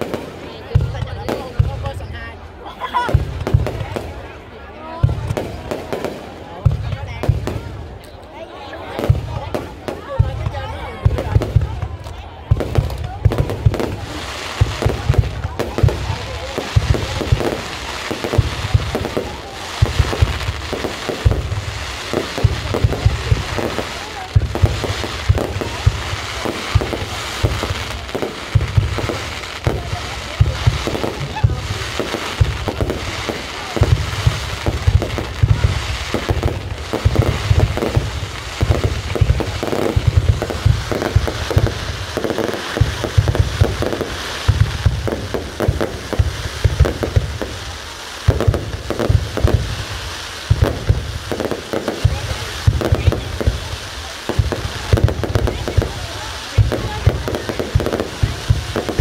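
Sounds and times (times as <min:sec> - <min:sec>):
firework crackle: 0:00.0 - 0:59.0
firework shells booming: 0:08.9 - 0:59.0.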